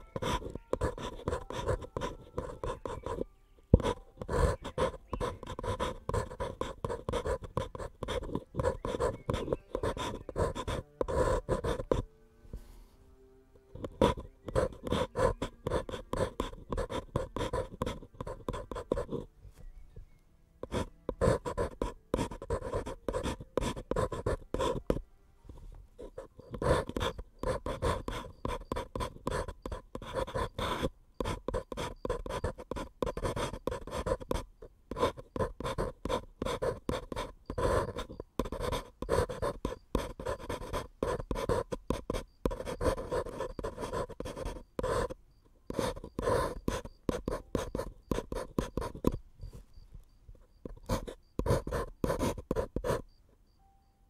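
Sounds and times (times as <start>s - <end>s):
pencil scratching on paper cup: 0.0s - 12.1s, 13.7s - 19.8s, 20.6s - 53.1s.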